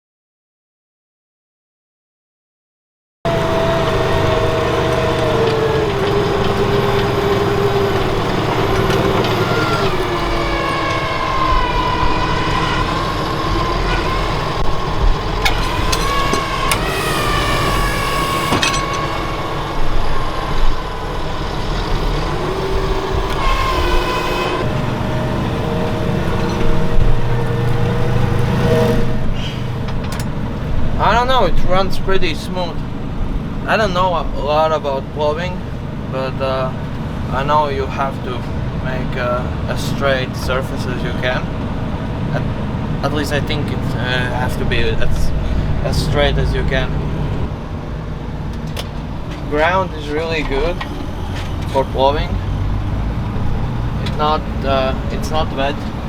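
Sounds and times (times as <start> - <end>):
tractor diesel engine under load: 3.3 - 56.0.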